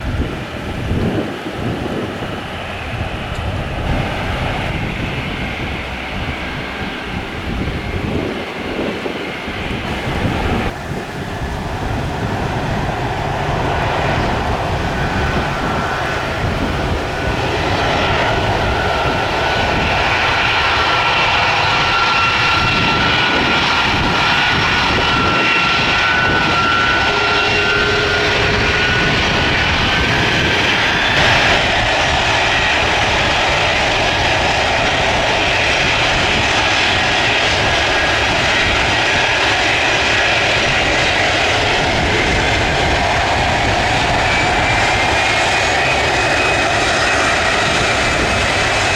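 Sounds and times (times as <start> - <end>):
high turbine whine: 0.0 - 48.9
jet engine roar: 0.0 - 48.9.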